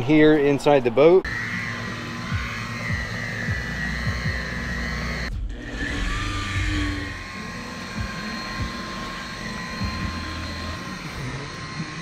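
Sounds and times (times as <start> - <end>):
polisher motor whine: 1.2 - 12.0.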